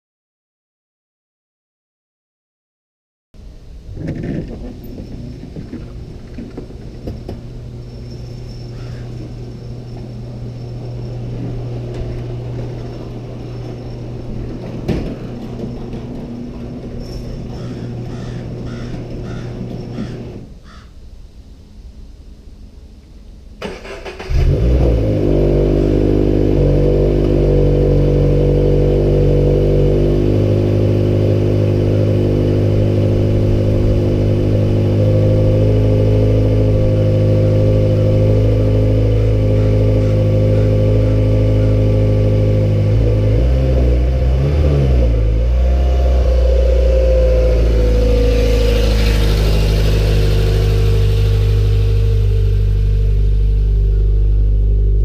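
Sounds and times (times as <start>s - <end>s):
car engine idling: 3.4s - 55.0s.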